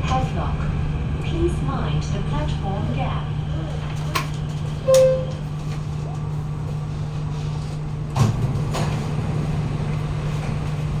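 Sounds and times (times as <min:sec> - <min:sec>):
metro car running gear hum: 0:00.0 - 0:11.0.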